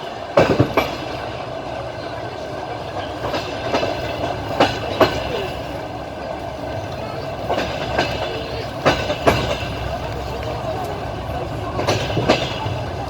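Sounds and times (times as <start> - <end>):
rumble of moving carriage: 0.0 - 13.0
train wheels clicking over rail joints: 0.0 - 13.0.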